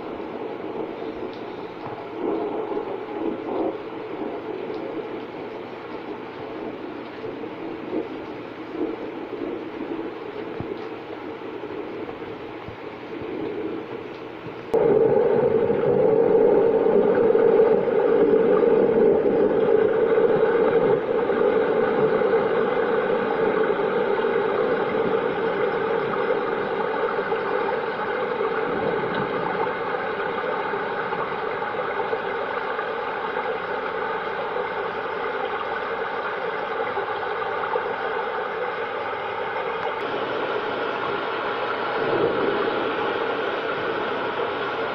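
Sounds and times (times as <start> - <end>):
steady dull rain: 0.0 - 44.9.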